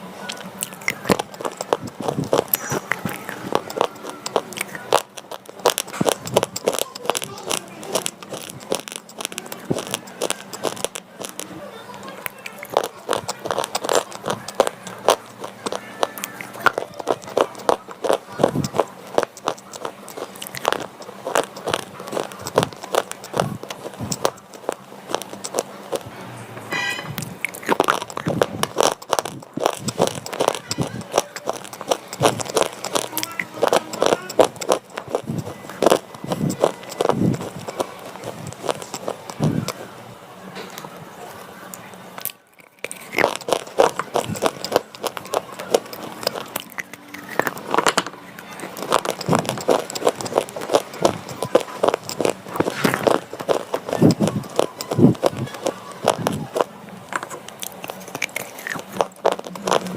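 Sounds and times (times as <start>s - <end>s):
crunching of chewed pencils: 0.0s - 26.1s, 27.0s - 39.9s, 40.6s - 59.9s.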